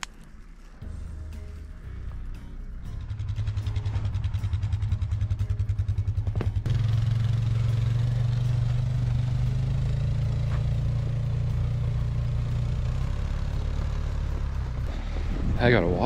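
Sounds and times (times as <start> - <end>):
atv engine driving: 0.0 - 16.0.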